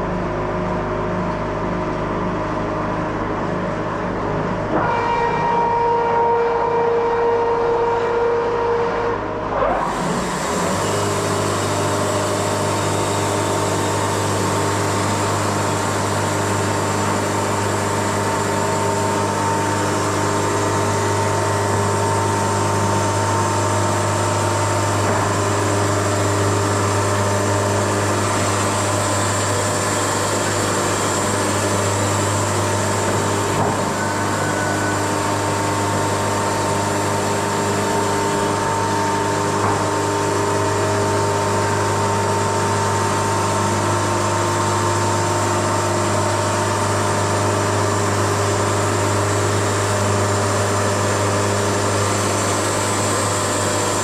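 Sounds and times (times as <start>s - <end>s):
sawmill engine drone: 0.0s - 54.0s.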